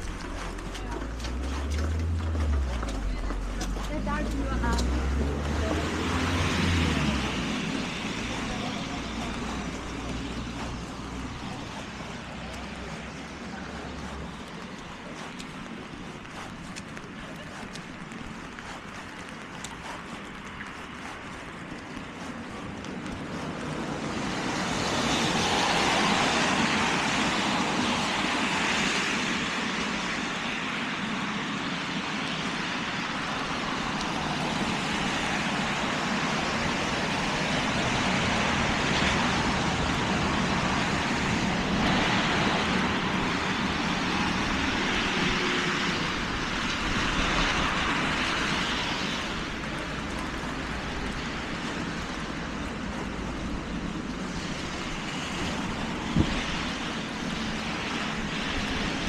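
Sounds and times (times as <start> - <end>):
rain: 0.0 - 59.0
traffic on wet roads: 0.0 - 59.0.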